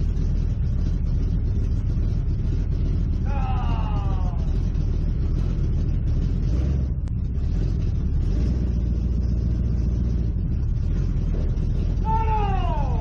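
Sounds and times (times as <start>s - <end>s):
race car engine rumbling: 0.0s - 13.0s.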